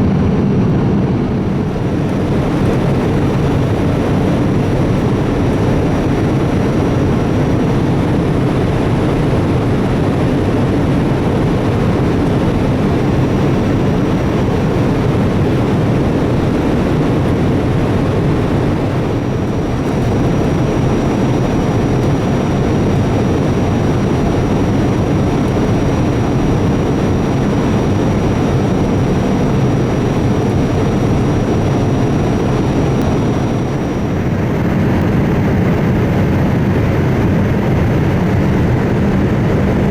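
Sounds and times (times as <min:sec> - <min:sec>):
faint high whine: 0:00.0 - 0:35.0
airplane cabin engine rush: 0:00.0 - 0:39.9.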